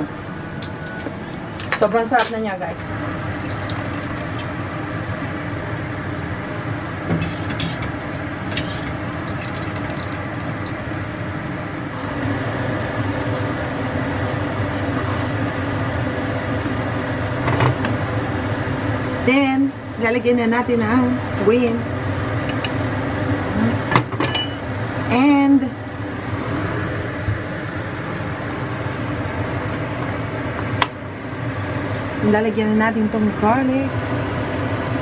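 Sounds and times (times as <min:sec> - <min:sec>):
rushing kitchen background noise: 0:00.0 - 0:35.0.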